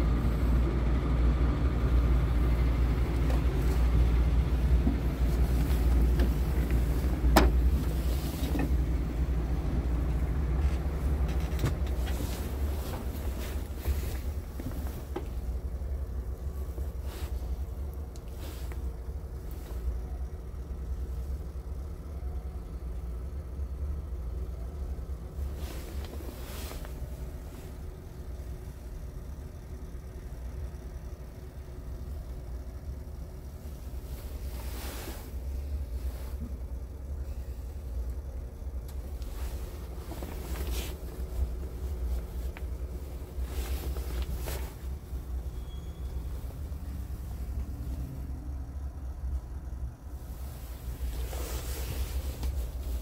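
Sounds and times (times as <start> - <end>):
truck diesel engine idling: 0.0 - 53.0.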